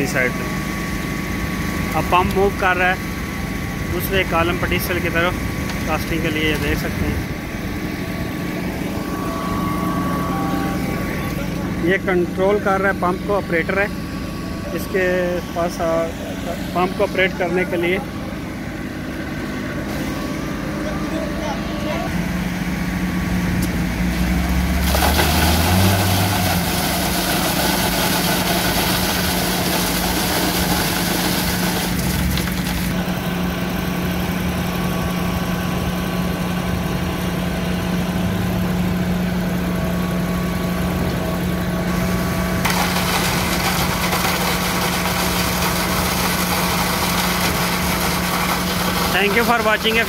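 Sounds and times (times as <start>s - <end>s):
higher-pitched machine noise: 0.0s - 39.2s, 41.3s - 50.0s
truck engine running: 0.0s - 50.0s.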